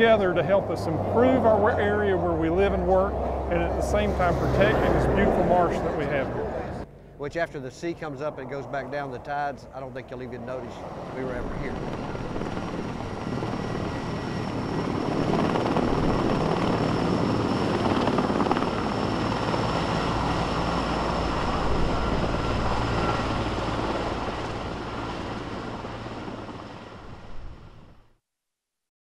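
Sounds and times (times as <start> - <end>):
helicopter flying overhead: 0.0 - 28.1.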